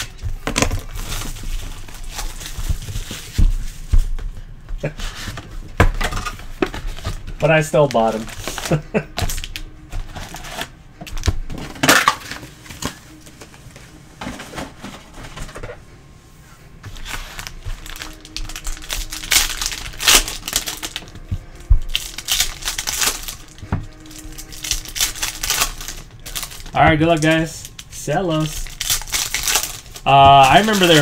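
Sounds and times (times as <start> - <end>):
foil packs crinkling: 0.0 - 4.2, 4.8 - 13.6, 16.9 - 31.0.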